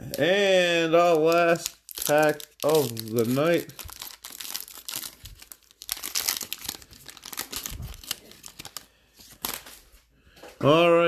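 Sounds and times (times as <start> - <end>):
wrapper tearing and crinkling: 0.8 - 9.8.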